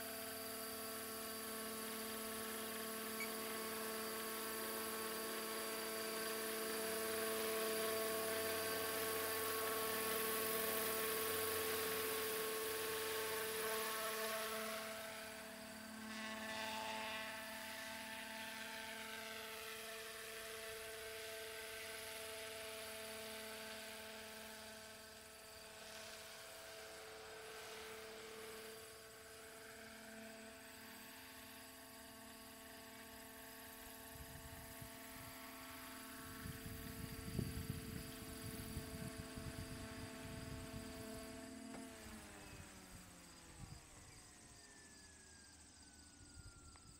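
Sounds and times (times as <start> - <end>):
model helicopter motor whine: 0.0 - 46.9.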